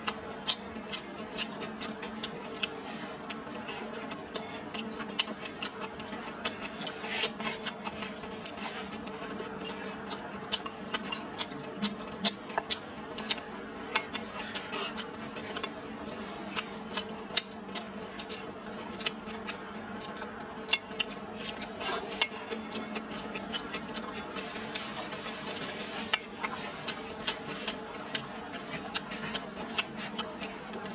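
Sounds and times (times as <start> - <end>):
chewing and lip smacks: 0.0 - 30.9
steady low hum: 0.0 - 30.9.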